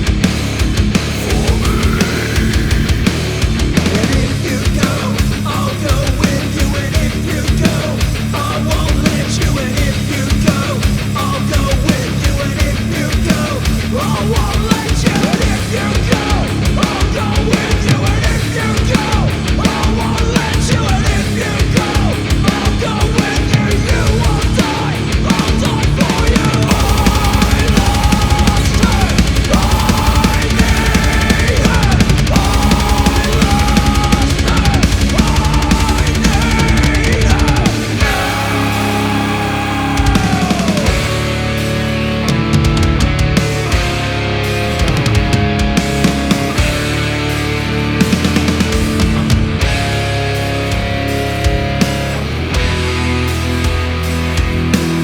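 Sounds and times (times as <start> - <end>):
black metal music: 0.0 - 55.0.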